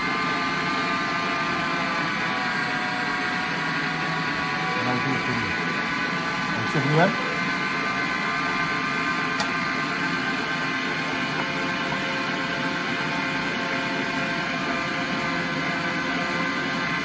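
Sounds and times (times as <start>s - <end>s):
electric meat grinder motor hum: 0.0s - 17.0s.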